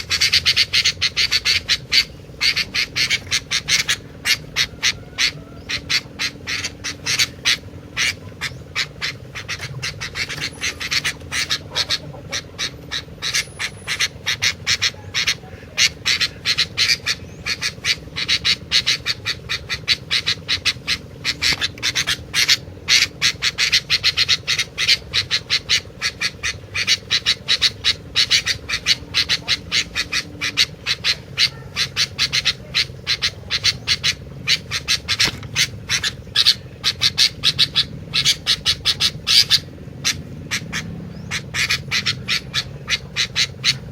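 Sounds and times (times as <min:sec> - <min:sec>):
bird chattering call: 0:00.0 - 0:43.9.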